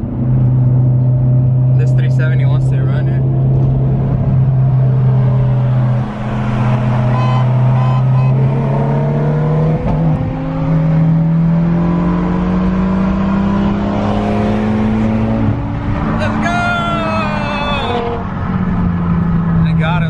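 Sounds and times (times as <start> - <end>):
car engine droning and revving: 0.0 - 20.0.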